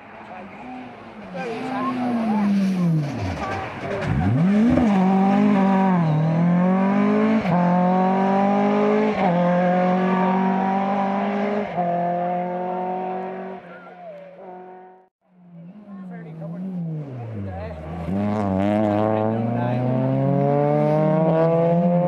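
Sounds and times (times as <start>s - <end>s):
car engine accelerating through gears: 1.4s - 13.8s, 14.4s - 22.0s.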